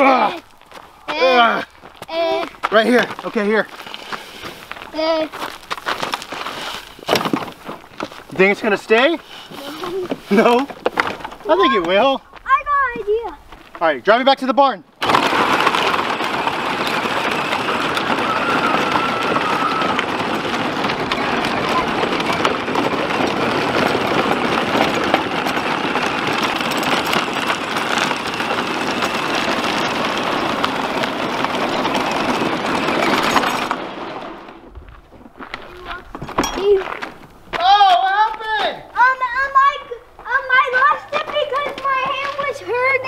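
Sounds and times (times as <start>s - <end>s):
toy tractor rolling over gravel: 0.0s - 43.0s.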